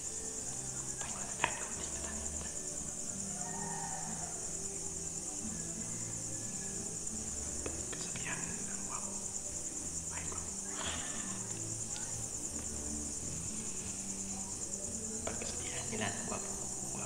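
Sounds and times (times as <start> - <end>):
crickets trilling: 0.0 - 17.0
faint background music: 0.0 - 17.0.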